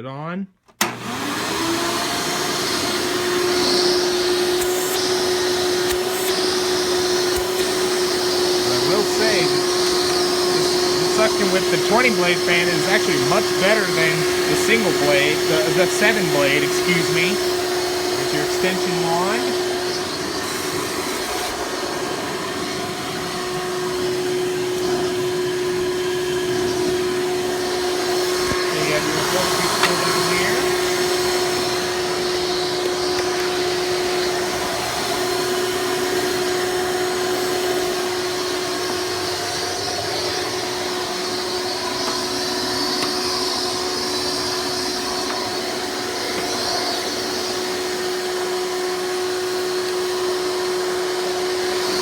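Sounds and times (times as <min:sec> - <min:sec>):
vacuum cleaner running: 0:00.8 - 0:52.0.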